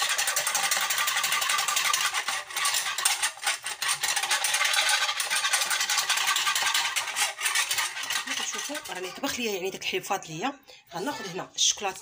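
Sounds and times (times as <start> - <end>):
whisk clicking in metal saucepan: 0.0 - 9.7.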